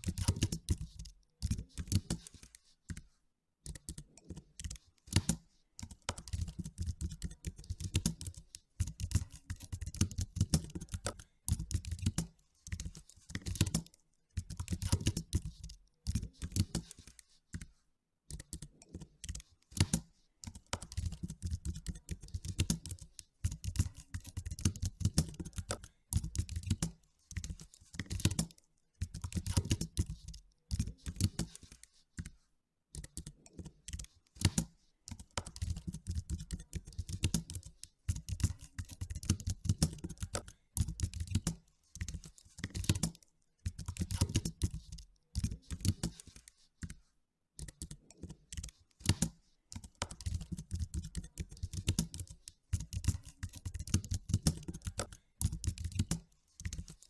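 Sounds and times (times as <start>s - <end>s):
typing on computer keyboard: 0.0s - 47.0s, 47.6s - 57.0s.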